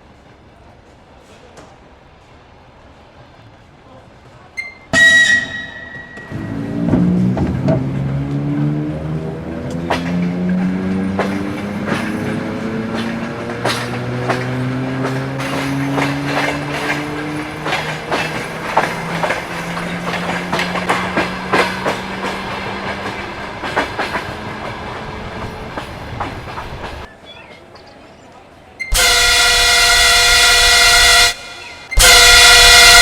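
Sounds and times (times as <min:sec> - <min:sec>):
train traction motors whining: 0:04.6 - 0:27.1, 0:28.8 - 0:33.0
train wheels clacking over rail joints: 0:04.6 - 0:27.1, 0:28.8 - 0:33.0.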